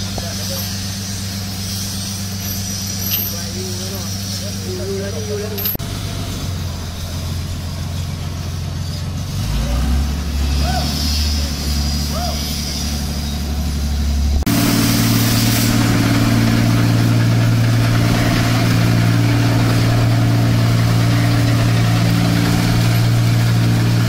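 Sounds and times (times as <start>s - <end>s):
combine harvester engine running: 0.0s - 24.0s
lower engine drone: 3.5s - 24.0s.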